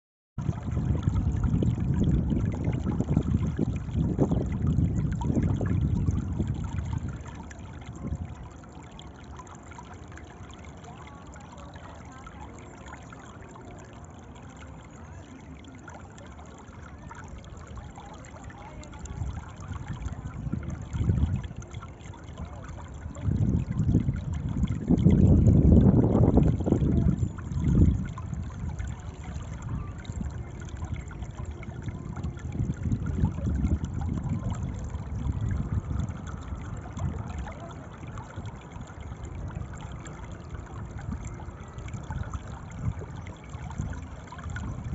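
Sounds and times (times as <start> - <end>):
water rushing and splashing: 0.4 - 44.9.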